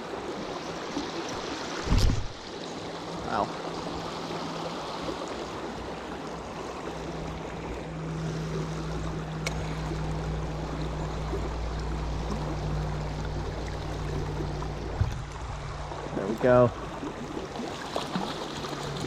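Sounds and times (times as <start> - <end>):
creek water rushing: 0.0 - 19.0
low steady hum: 1.9 - 19.0.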